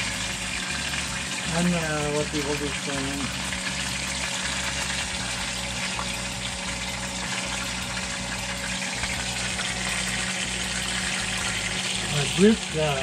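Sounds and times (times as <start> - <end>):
low even hum: 0.0 - 13.0.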